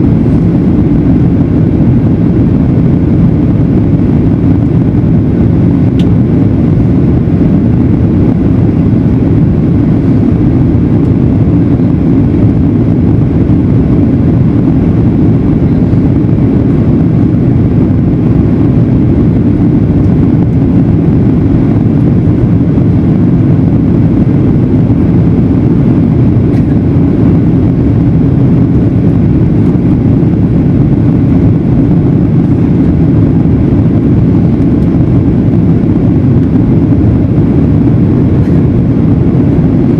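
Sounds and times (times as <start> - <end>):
jet airliner roar: 0.0 - 39.9.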